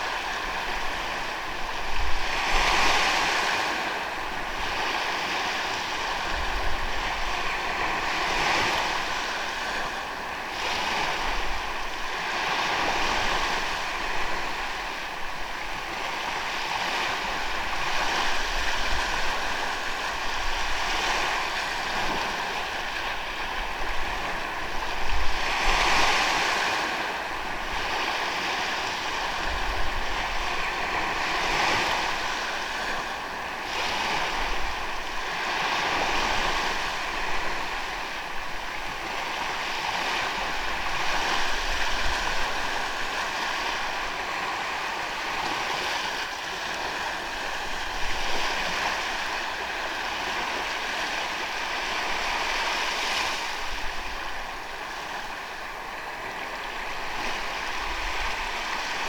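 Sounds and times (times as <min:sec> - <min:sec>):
ocean waves on sandy beach: 0:00.0 - 0:59.0
wind on microphone: 0:00.0 - 0:59.0.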